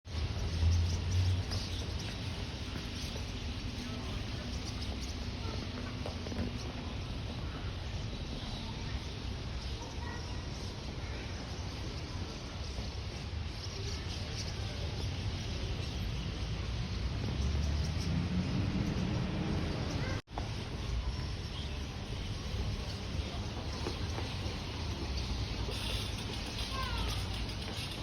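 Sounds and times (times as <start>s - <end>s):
flock of birds calling: 0.3s - 16.5s, 20.8s - 28.0s.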